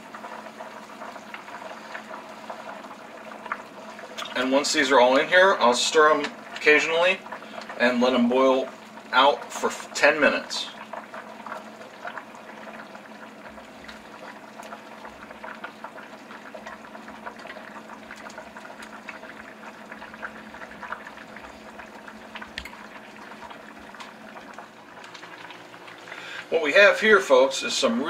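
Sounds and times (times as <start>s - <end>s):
soup boiling in a pot: 0.0s - 28.0s.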